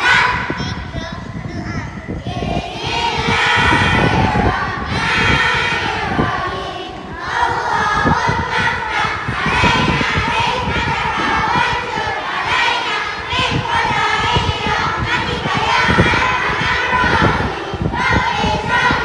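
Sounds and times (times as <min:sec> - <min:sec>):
young children's voices: 0:00.0 - 0:19.0.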